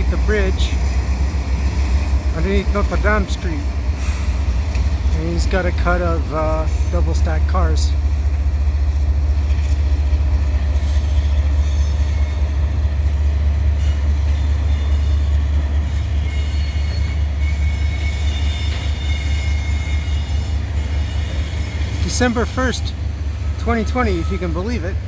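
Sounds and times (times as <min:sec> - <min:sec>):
locomotive engine rumble: 0:00.0 - 0:25.0
train cars rolling: 0:00.0 - 0:25.0.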